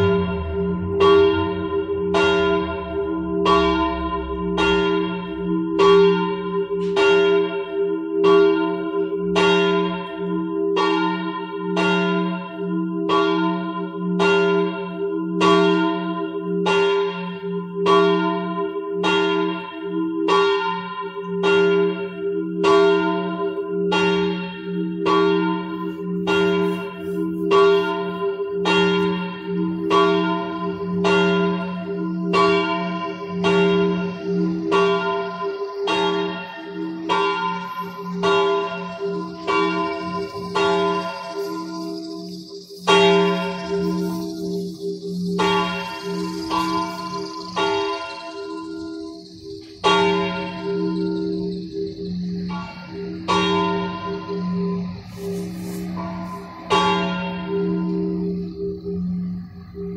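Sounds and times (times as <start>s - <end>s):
church bell ringing: 0.0s - 59.9s.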